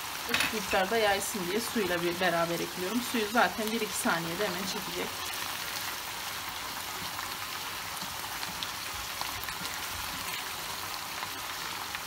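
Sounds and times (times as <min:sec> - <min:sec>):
meat sauce sizzling in frying pan: 0:00.0 - 0:12.0.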